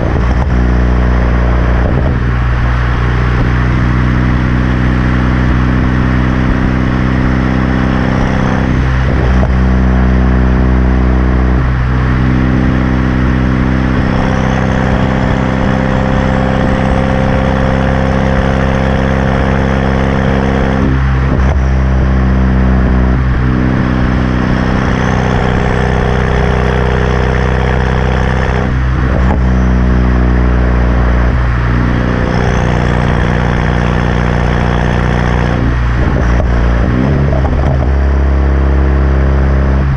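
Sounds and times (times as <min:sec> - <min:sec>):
car engine idling loudly: 0:00.0 - 0:39.9.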